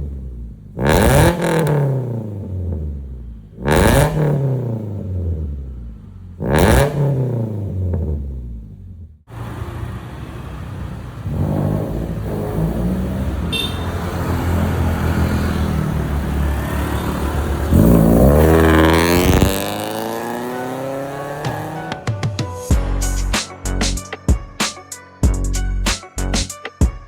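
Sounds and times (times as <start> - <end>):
car engine through exhaust: 0.0 - 22.1
engine revving: 0.0 - 22.2.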